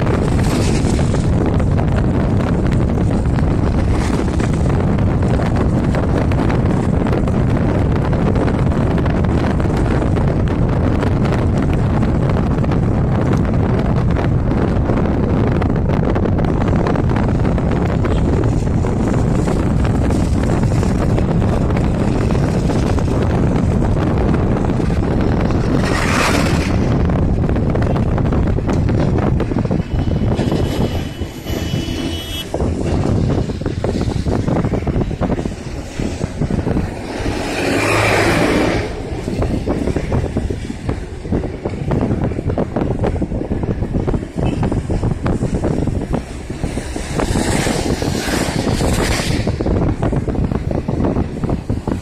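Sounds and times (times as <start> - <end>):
car road rumble and wind noise: 0.0 - 52.0.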